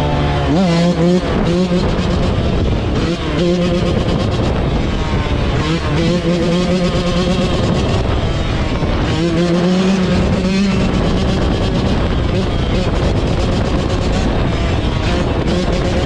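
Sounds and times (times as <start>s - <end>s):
small off-road engines running: 0.0s - 16.0s.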